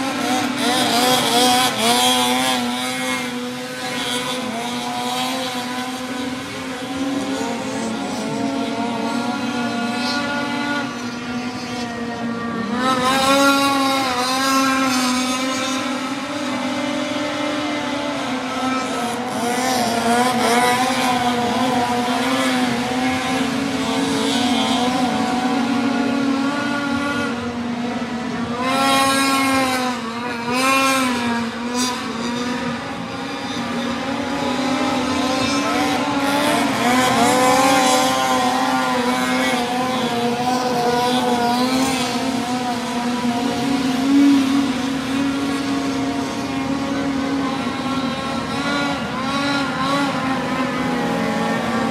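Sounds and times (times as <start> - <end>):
racing boat engine revving: 0.0 - 51.9.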